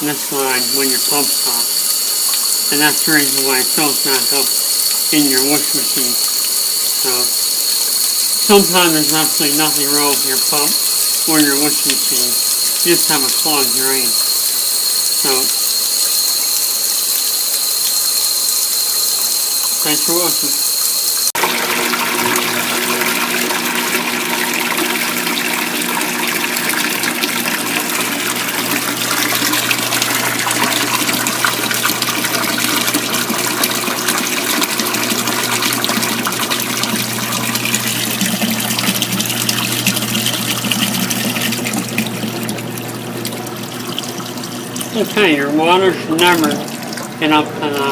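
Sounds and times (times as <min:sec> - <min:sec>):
water gushing through drain: 0:00.0 - 0:18.0, 0:21.4 - 0:47.9
washing machine drain pump humming: 0:00.0 - 0:47.9.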